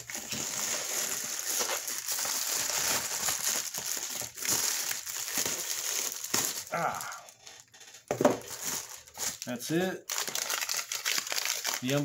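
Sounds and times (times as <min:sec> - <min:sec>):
plastic mailer crinkling: 0:00.0 - 0:12.0.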